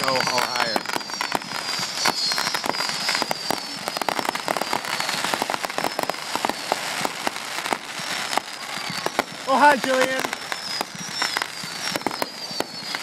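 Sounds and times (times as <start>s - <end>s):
falling whistling tones: 0.0s - 13.0s
fireworks crackling: 0.0s - 13.0s.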